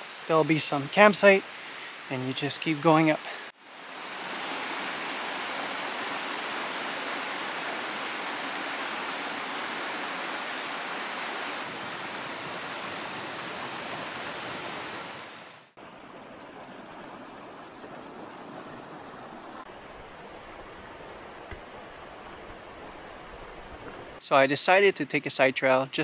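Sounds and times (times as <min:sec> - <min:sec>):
stream rushing over boulders: 0:00.0 - 0:24.8.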